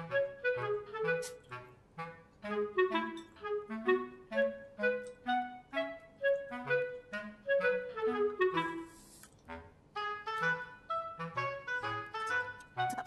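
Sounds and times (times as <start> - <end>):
bouncy instrumental tune: 0.0 - 13.0.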